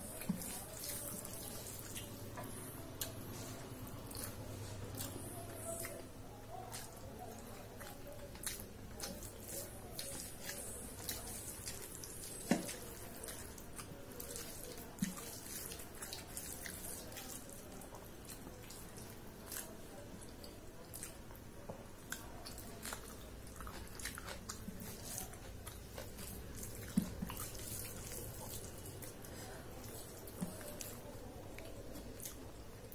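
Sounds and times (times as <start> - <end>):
chewing and lip-smacking: 0.0 - 32.9
fingers squishing rice on plate: 0.0 - 32.9.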